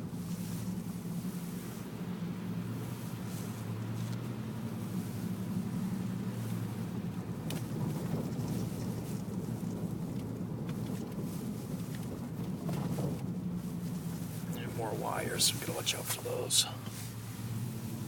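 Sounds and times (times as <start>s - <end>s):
vehicle engine and tyres droning: 0.0s - 18.0s.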